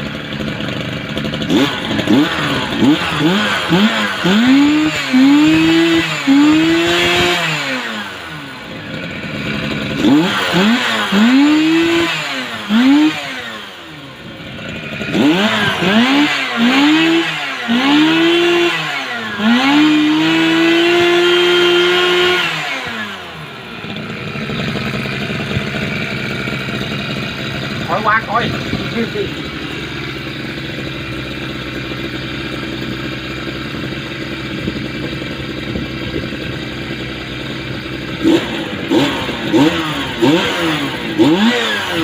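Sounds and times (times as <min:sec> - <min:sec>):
brush cutter engine revving: 0:00.0 - 0:42.0.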